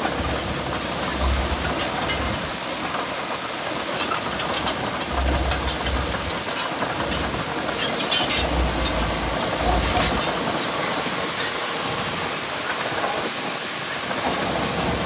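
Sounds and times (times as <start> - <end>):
heavy machinery din: 0.0 - 13.3.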